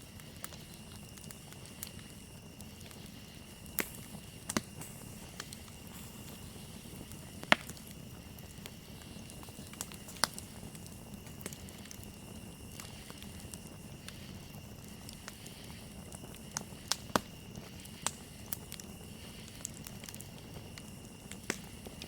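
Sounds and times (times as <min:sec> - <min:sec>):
campfire crackling and popping: 0:00.0 - 0:22.0
cricket trill: 0:00.0 - 0:22.0.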